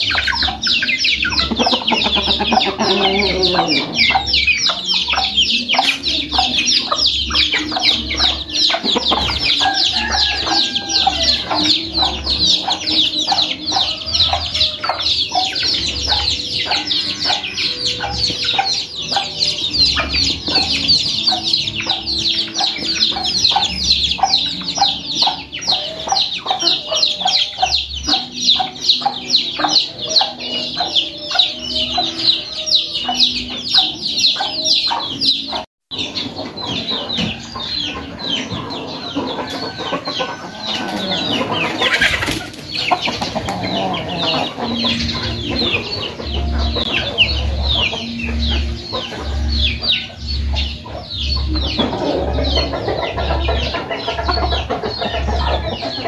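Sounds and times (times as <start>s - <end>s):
chickens clucking: 0.0s - 56.0s
rapid high peeping chirps: 0.0s - 56.0s.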